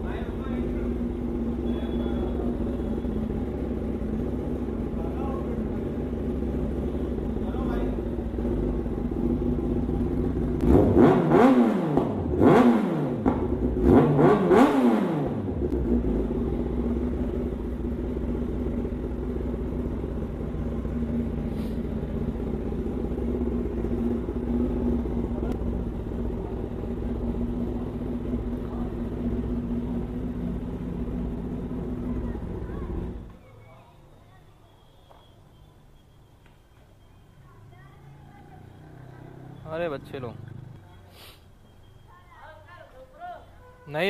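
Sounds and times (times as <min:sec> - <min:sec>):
motorcycle engine idling and revving: 0:00.0 - 0:34.2, 0:35.0 - 0:44.0.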